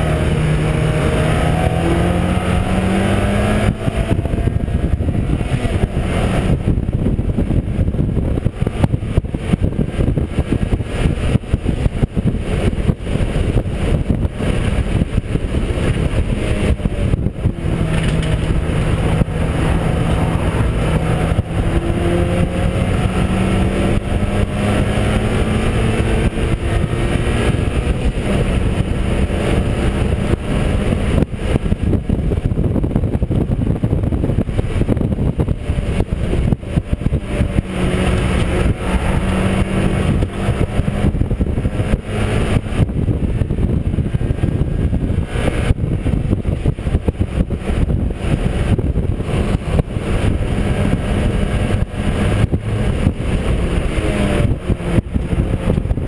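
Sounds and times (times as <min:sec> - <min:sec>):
race car engine revving: 0:00.0 - 0:56.0
wind and road noise: 0:00.0 - 0:56.0.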